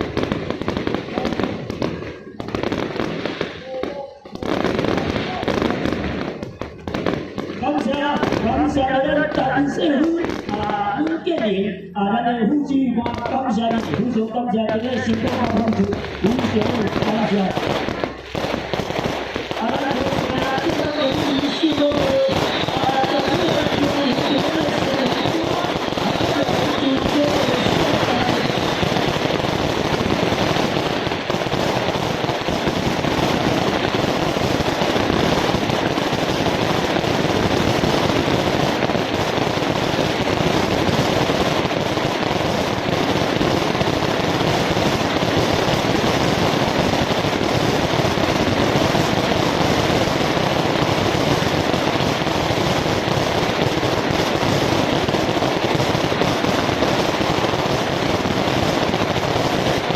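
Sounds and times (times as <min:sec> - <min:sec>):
fireworks crackling bangs: 0:00.0 - 0:59.9.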